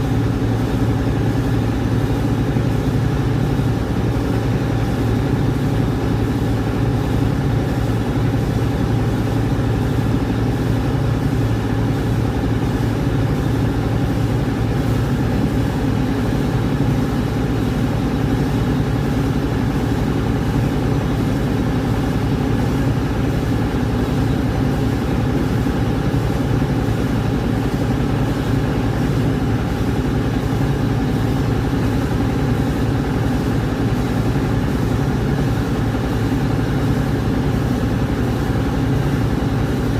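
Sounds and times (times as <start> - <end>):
rice milling machine humming: 0.0 - 39.9.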